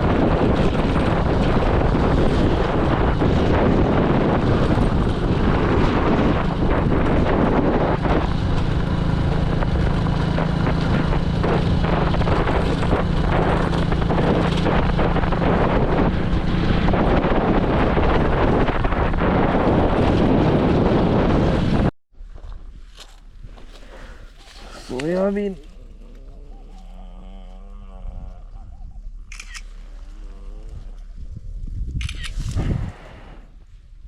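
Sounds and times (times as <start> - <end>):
vehicle engine hum: 0.0 - 21.9, 23.1 - 32.6
wind noise on microphone: 0.0 - 34.0.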